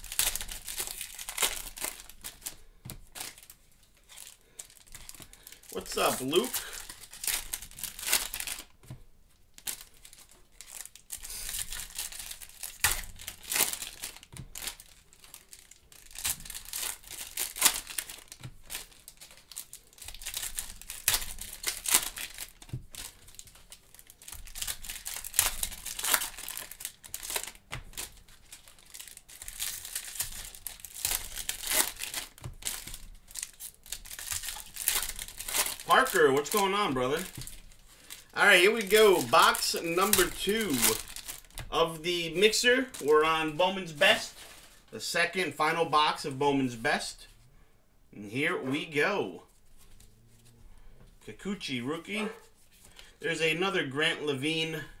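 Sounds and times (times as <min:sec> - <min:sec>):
wrappers tearing and crinkling: 0:00.0 - 0:08.8, 0:09.4 - 0:44.8.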